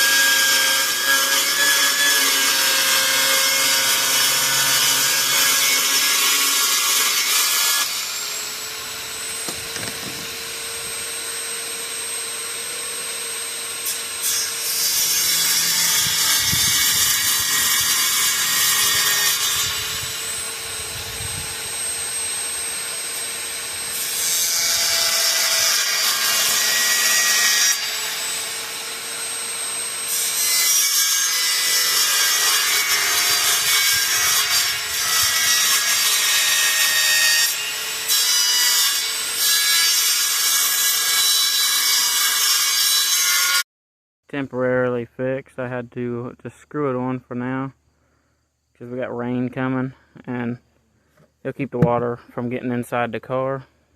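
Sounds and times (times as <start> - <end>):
power saw cutting plastic: 0.0 - 43.6.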